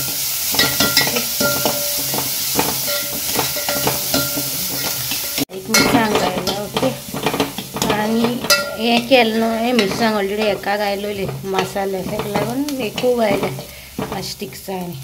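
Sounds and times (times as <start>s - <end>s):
onions sizzling in oil: 0.0s - 15.0s
metal spoon scraping pot: 0.5s - 14.4s.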